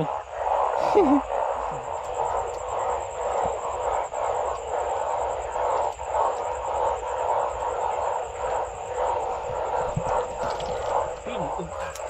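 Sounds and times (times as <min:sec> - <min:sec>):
frogs chorus calling: 0:00.0 - 0:12.0.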